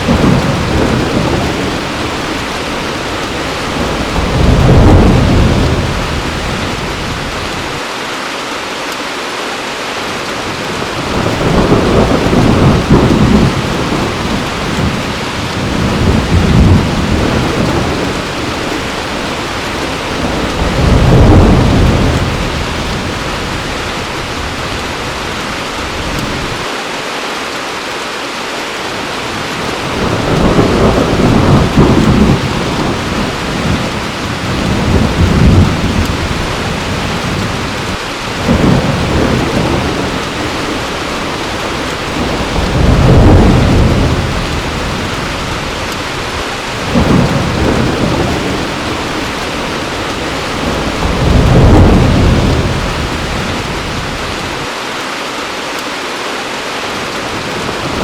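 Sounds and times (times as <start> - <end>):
thunder rumbling: 0.0 - 7.8, 10.5 - 26.7, 29.2 - 54.7, 57.1 - 58.0
heavy rain: 0.0 - 58.0.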